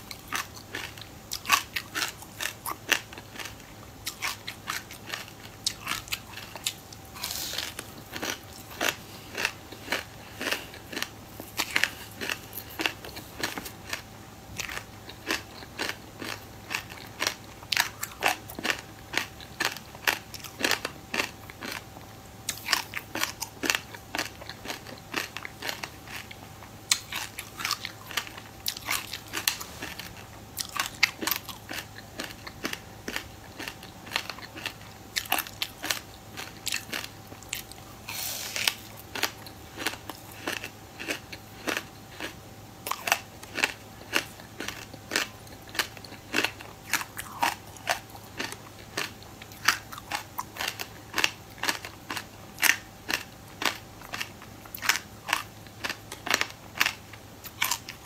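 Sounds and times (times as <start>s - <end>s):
chewing crunchy frozen food: 0.0s - 58.0s.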